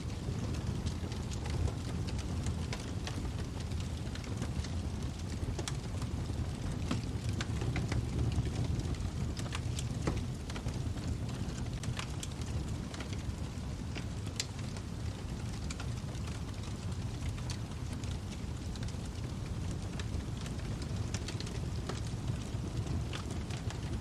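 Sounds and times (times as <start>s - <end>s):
low rumble of flames: 0.0s - 24.0s
wood fire popping and snapping: 0.0s - 24.0s.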